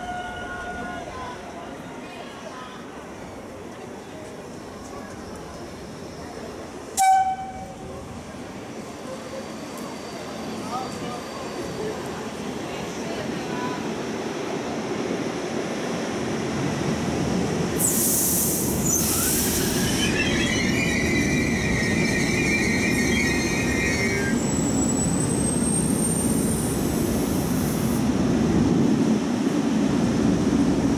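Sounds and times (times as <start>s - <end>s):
train coaches rumbling and clattering: 0.0s - 30.9s.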